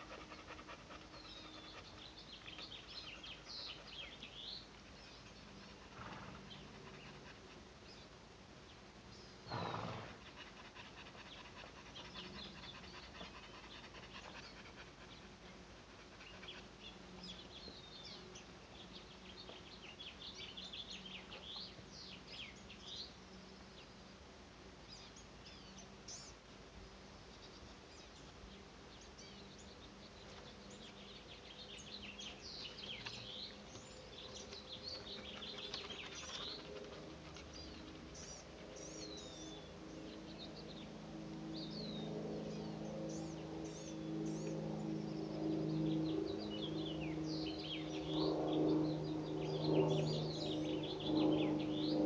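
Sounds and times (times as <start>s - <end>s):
small birds chirping: 0.0s - 24.2s, 24.8s - 52.0s
faint low hum: 0.0s - 52.0s.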